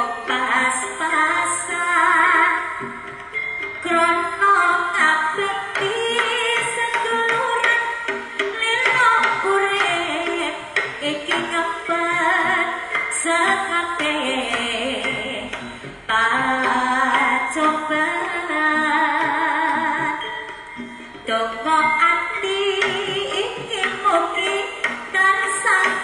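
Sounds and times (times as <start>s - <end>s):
ensemble instruments and drums: 0.0s - 26.0s
person singing wavering melody: 0.0s - 26.0s.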